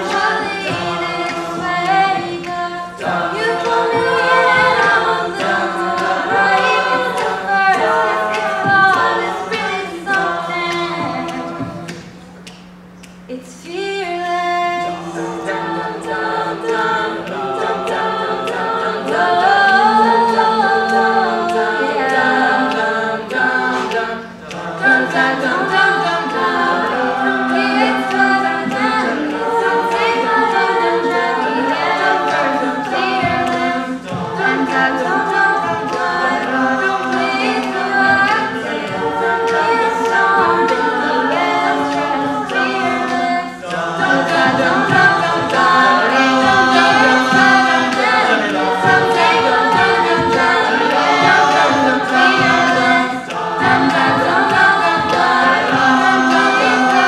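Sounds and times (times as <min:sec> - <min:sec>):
a cappella group singing: 0:00.0 - 0:57.0.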